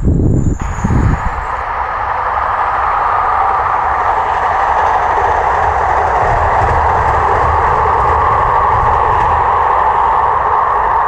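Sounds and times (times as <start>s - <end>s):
passenger train passing: 0.0s - 11.0s.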